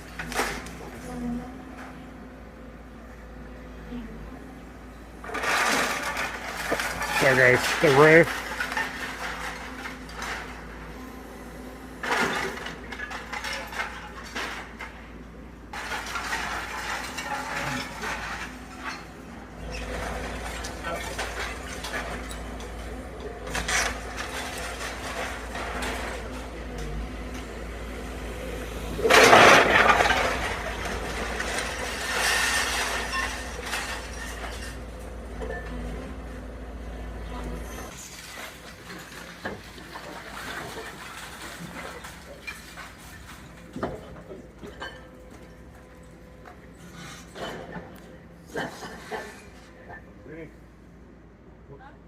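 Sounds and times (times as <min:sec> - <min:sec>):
debris cracking and rattling: 0:00.0 - 0:01.0, 0:05.2 - 0:11.1, 0:11.9 - 0:50.1
faint machine engine: 0:00.0 - 0:52.0
rubble crashing: 0:05.1 - 0:11.0, 0:11.9 - 0:50.0.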